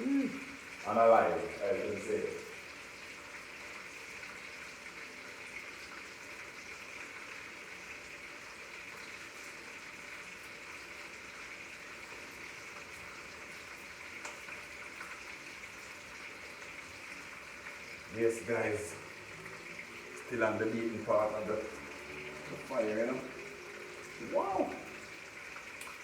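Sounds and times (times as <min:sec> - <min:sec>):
food sizzling and bubbling: 0:00.0 - 0:26.0.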